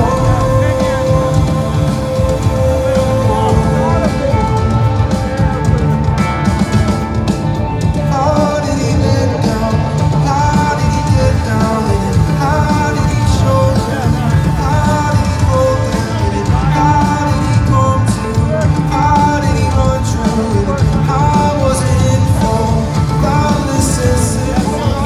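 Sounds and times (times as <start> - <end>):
electric guitar: 0.0 - 25.0
live rock music: 0.0 - 25.0
person singing: 0.0 - 25.0
pulsing bass: 0.0 - 25.0.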